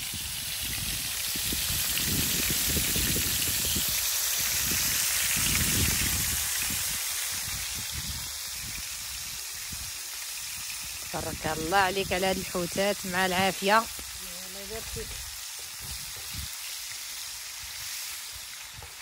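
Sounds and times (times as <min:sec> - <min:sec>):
fish sizzling on a grill: 0:00.0 - 0:19.0.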